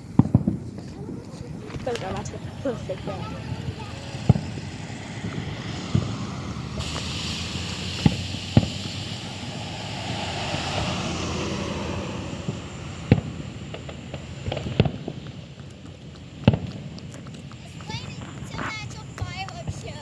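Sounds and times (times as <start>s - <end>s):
firework hissing spray: 0.0s - 20.0s
firework pops: 0.0s - 20.0s.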